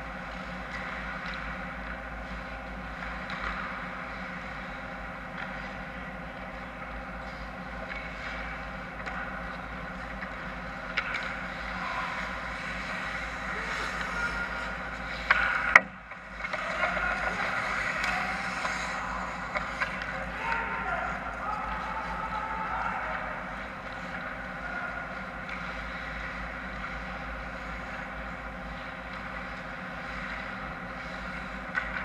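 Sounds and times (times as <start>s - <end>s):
steady hum: 0.0s - 32.0s
skates scraping ice: 0.3s - 32.0s.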